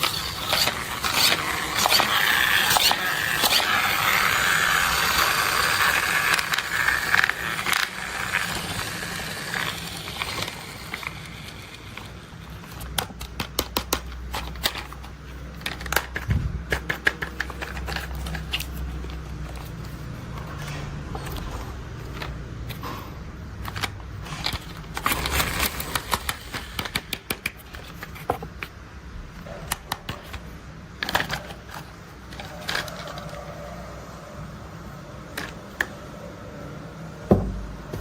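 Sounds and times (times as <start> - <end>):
plastic clicks and rattles: 0.0 - 23.0, 23.6 - 28.7, 29.6 - 33.4
plastic toys scraping and rustling: 0.0 - 36.2.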